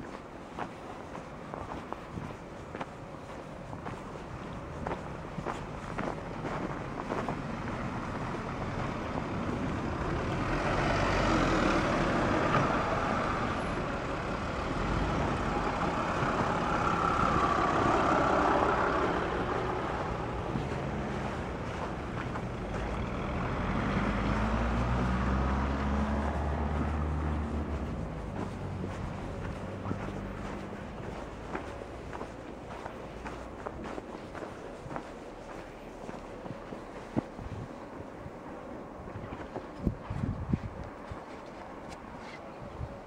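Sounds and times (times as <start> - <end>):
vehicles passing through slush: 0.0 - 43.0.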